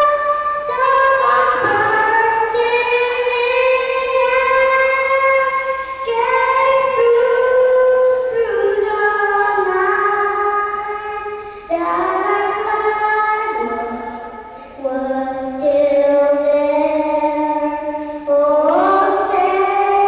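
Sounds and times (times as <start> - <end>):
girl singing into a microphone: 0.0 - 20.0.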